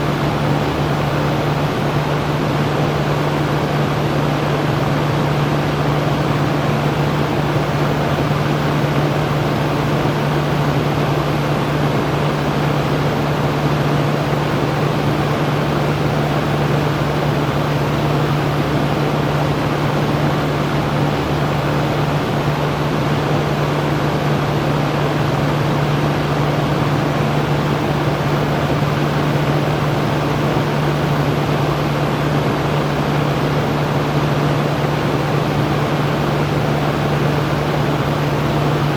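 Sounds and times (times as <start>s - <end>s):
electric fan rushing air: 0.0s - 38.9s.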